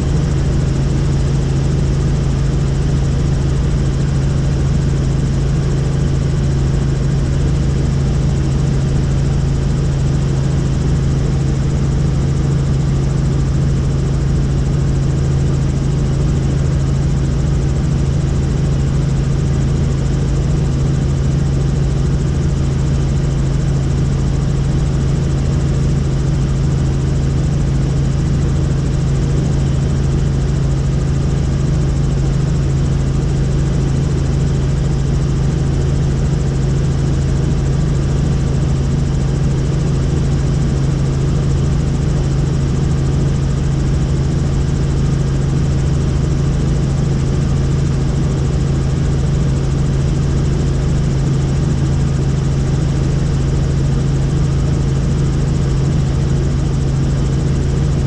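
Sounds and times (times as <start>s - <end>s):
helicopter flying: 0.0s - 58.0s.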